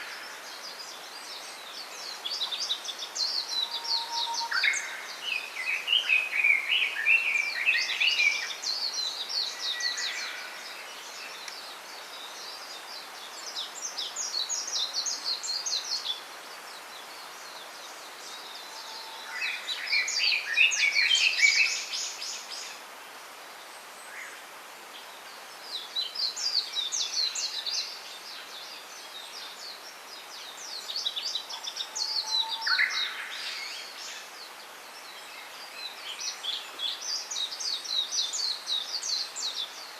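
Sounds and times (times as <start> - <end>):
faint steady hiss: 0.0 - 39.9
songbirds twittering: 0.0 - 39.9.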